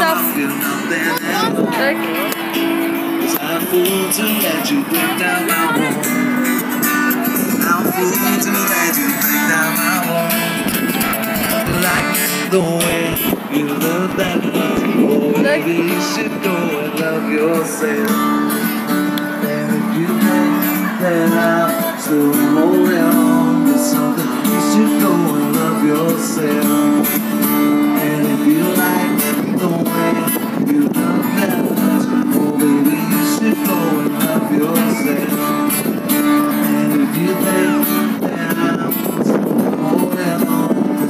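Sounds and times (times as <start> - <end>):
person singing with guitar: 0.0 - 41.0.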